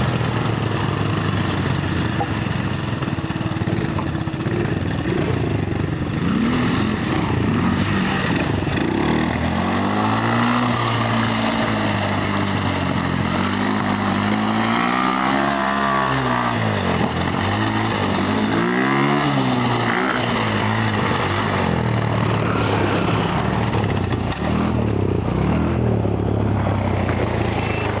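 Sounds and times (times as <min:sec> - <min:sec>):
quad bike engine revving: 0:00.0 - 0:28.0.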